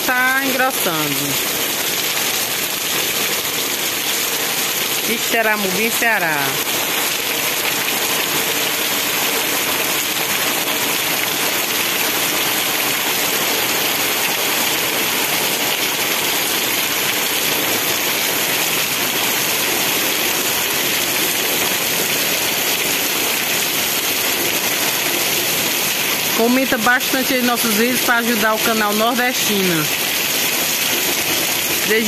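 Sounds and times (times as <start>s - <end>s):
heavy rain on pavement: 0.0s - 32.0s.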